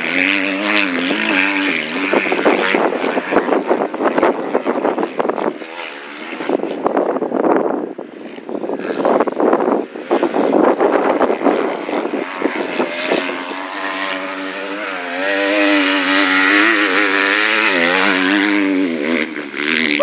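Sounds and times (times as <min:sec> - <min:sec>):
motocross bike engine revving: 0:00.0 - 0:20.0
wind buffeting microphone: 0:00.0 - 0:20.0.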